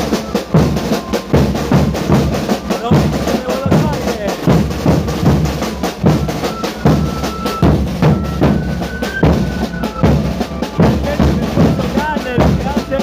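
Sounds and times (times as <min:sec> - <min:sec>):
bass drum: 0:00.0 - 0:13.0
short held high notes: 0:00.0 - 0:13.0
snare and drums: 0:00.0 - 0:13.0.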